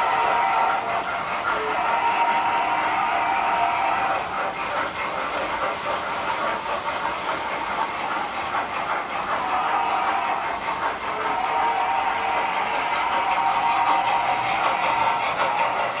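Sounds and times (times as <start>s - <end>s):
clickety-clack over rail joints: 0.0s - 16.0s
model train wheels on track: 0.0s - 16.0s.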